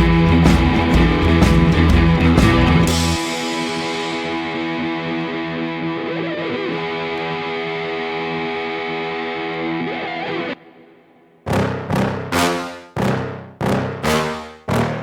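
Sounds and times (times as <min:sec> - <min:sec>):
distorted electric guitar chords: 0:00.0 - 0:10.7, 0:11.5 - 0:15.0.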